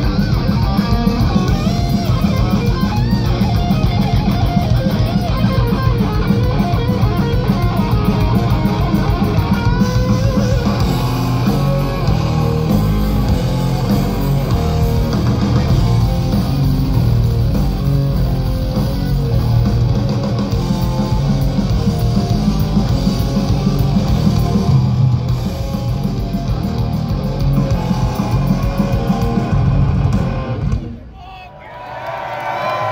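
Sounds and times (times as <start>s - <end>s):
bass guitar: 0.0s - 31.1s
distorted electric guitars: 0.0s - 31.1s
fast driving drums: 0.0s - 31.1s.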